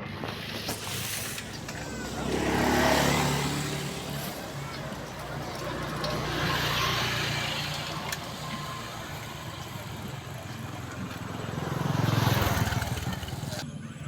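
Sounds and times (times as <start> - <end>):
vehicles passing by: 0.0 - 14.0.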